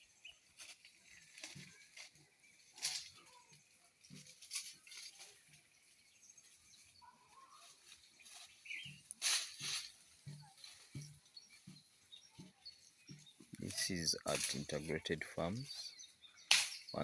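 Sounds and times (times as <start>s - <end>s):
bird calls: 0.0s - 17.0s
outdoor rustling and crackling: 0.0s - 17.0s.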